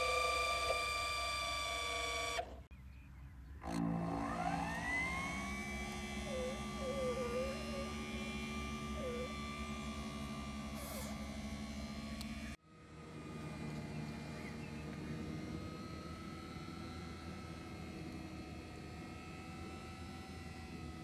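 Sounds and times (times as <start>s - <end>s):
electric motor whining: 0.0s - 2.7s, 3.6s - 21.0s
low hum: 0.0s - 21.0s.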